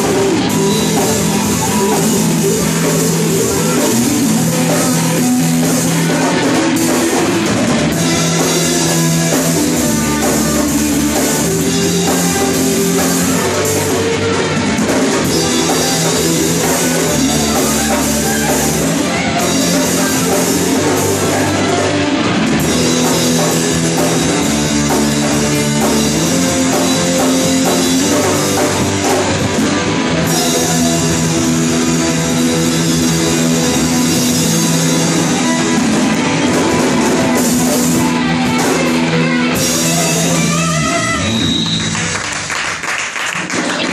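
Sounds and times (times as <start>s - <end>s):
drum kit: 0.0s - 43.9s
electric guitar: 0.0s - 43.9s
rock band playing: 0.0s - 43.9s.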